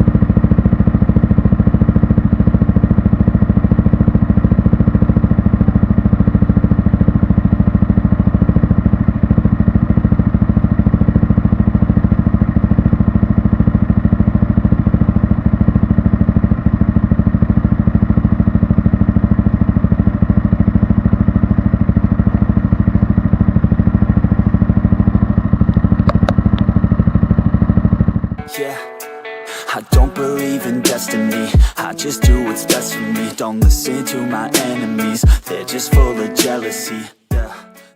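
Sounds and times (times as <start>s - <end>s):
motorcycle engine running: 0.0s - 28.5s, 29.8s - 37.5s.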